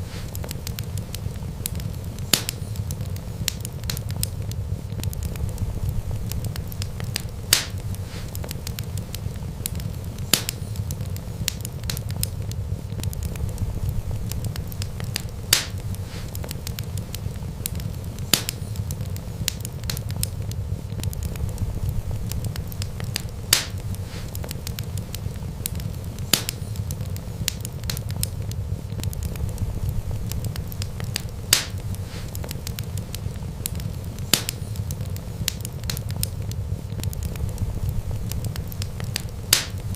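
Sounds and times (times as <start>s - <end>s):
sharp fire pops: 0.0s - 39.9s
wood fire crackling: 0.0s - 39.9s.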